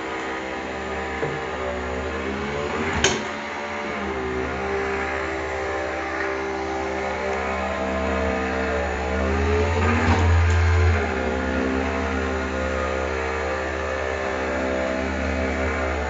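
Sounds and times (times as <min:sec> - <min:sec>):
stair climber motor humming: 0:00.0 - 0:16.0.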